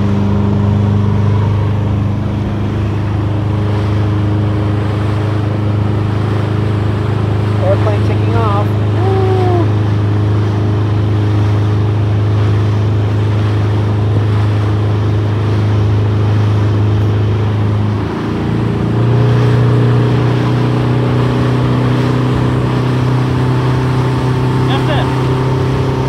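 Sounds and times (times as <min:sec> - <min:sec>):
motorboat engine running: 0:00.0 - 0:26.0
water rushing from hull: 0:00.0 - 0:26.0.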